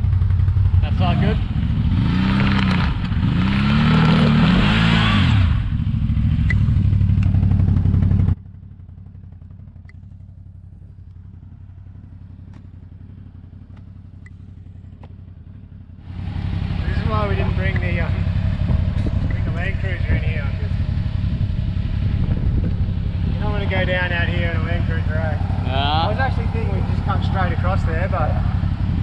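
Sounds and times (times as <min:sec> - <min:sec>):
vehicle engine revving: 0:00.0 - 0:08.4, 0:11.0 - 0:29.0.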